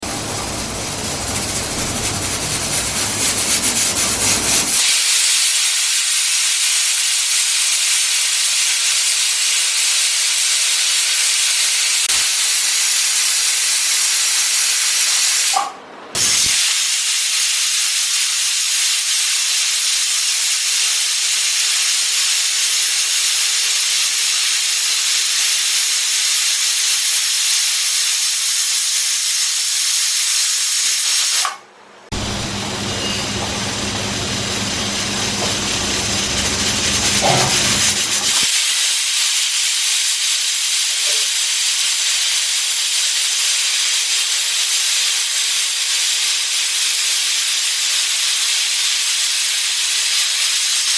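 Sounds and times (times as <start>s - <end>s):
pressure cooker whistle hissing: 0.0s - 31.6s, 32.2s - 50.9s.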